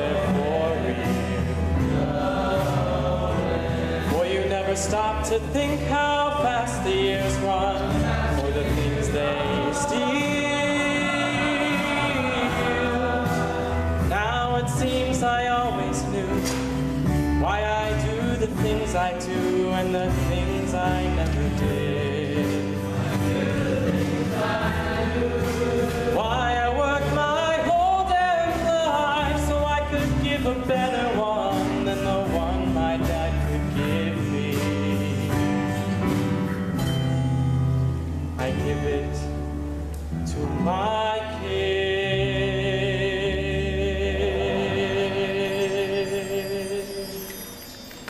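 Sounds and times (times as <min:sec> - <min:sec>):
man singing ballad: 0:00.0 - 0:01.8, 0:03.8 - 0:36.2, 0:38.3 - 0:39.5, 0:40.2 - 0:47.6.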